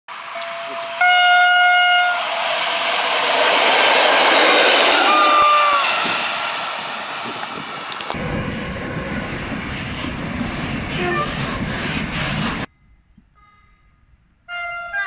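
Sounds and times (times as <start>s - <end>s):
electric train rolling away: 0.1s - 12.7s
freight train passing: 0.1s - 15.0s.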